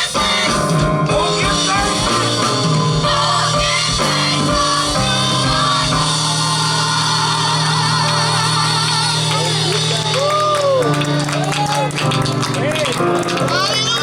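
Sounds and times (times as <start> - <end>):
bass line: 0.0 - 14.0
drums: 0.0 - 14.0
gospel band playing: 0.0 - 14.0.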